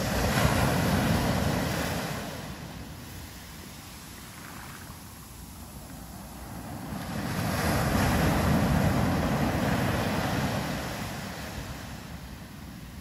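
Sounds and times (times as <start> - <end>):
ocean wave washing up shore: 0.0 - 13.0.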